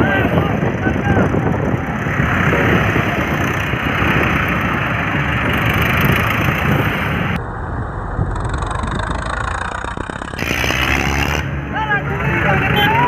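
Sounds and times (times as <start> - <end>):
tractor engines rumbling: 0.0 - 13.0.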